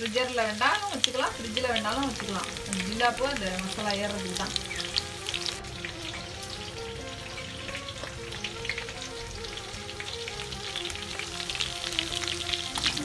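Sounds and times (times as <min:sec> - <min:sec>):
chicken frying in hot oil: 0:00.0 - 0:13.0
oil crackling and popping: 0:00.0 - 0:13.0.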